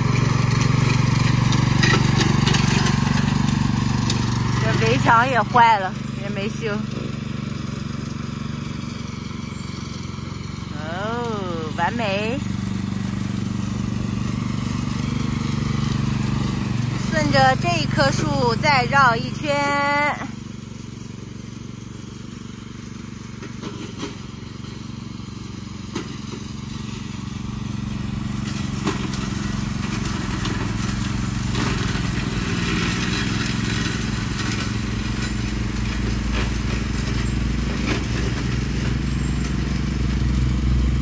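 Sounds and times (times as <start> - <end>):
riding lawn mower engine: 0.0 - 41.0.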